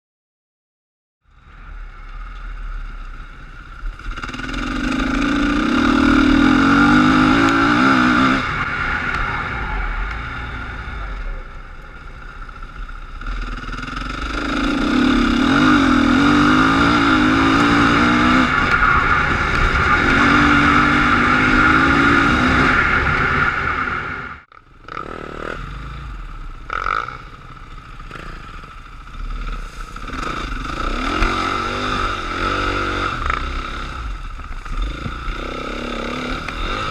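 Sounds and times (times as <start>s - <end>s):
uneven engine sound: 1.2s - 36.9s
dirt bike engine revving: 2.5s - 36.9s.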